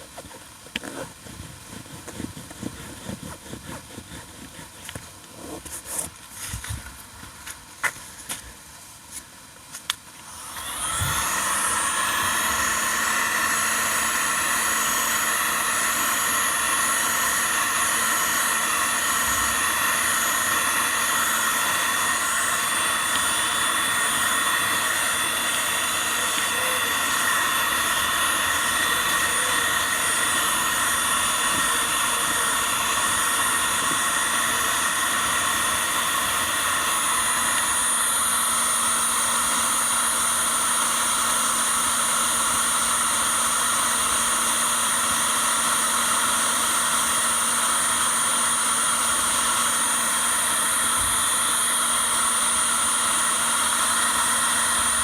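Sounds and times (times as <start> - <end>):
electric blower motor whooshing: 10.2 - 55.0.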